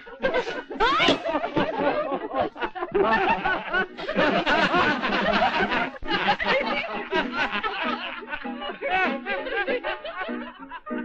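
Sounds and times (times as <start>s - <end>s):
crowd laughing: 0.0s - 11.0s.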